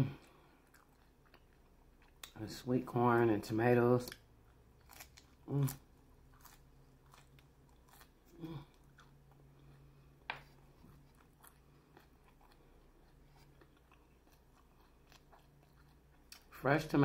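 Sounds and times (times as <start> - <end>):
chewing crunchy taco: 0.0 - 2.4, 4.0 - 16.6.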